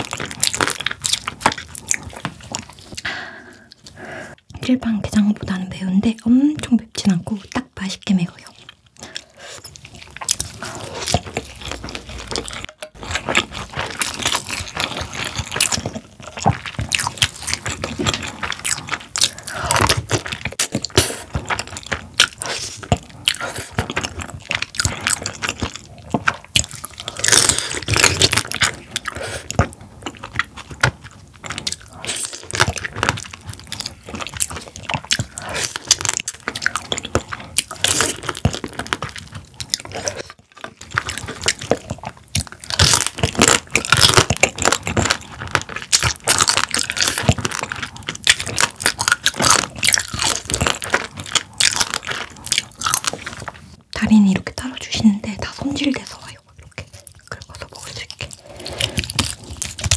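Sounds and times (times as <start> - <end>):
person chewing crunchy crab: 0.0 - 4.6, 8.2 - 54.0, 55.8 - 59.9.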